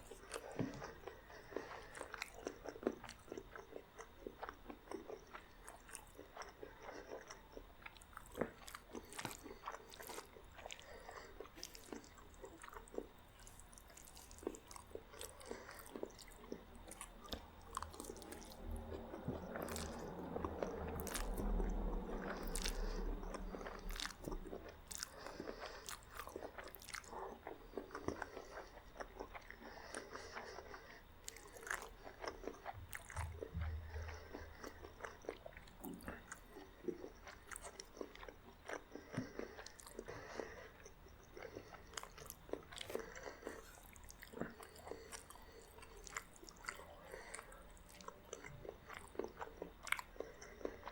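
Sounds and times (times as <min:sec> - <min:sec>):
chewing and crunching: 0:00.0 - 0:50.9.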